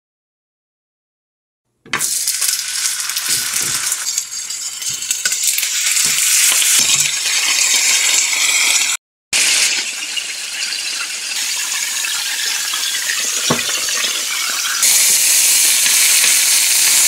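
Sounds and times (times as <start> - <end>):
meat sizzling in a frying pan: 2.0 - 17.0.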